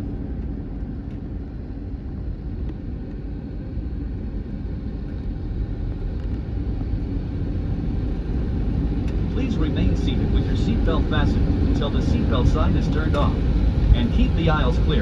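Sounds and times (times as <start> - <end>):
airliner cabin low rumble: 0.0 - 15.0.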